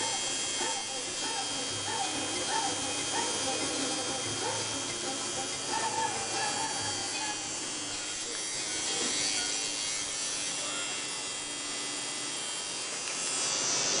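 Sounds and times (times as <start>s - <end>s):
tattoo machine buzzing: 0.0s - 14.0s.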